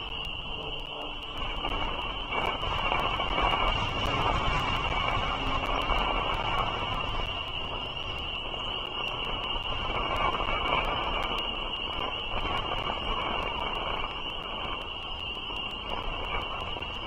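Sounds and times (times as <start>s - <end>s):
high-pitched steady tone: 0.0s - 17.0s.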